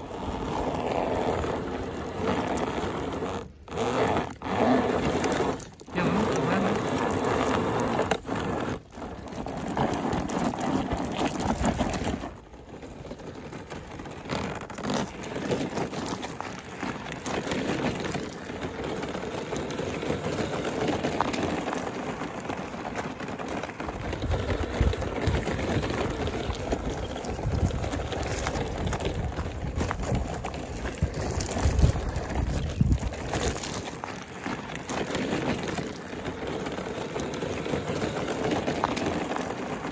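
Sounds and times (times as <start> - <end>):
stones crunching under tyres: 0.0 - 39.9.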